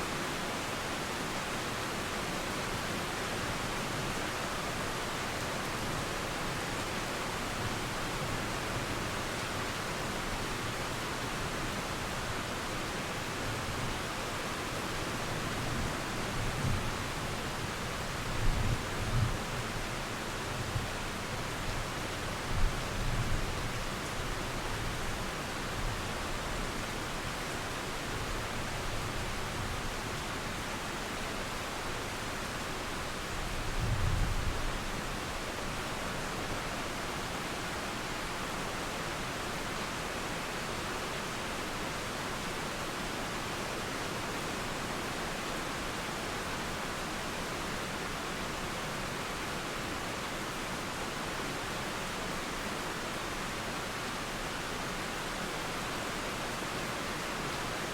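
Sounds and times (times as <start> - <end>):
rain hissing through trees: 0.0 - 57.9.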